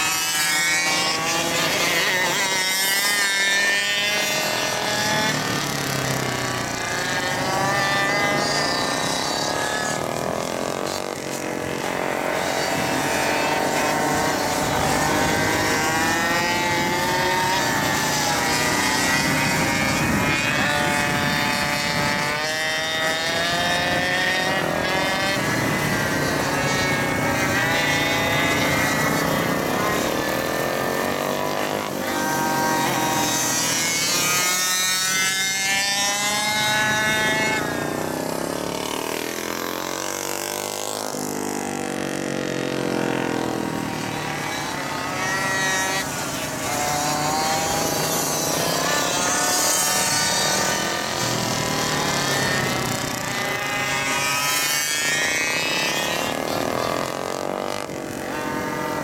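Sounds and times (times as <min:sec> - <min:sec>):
small engines revving: 0:00.0 - 0:59.0.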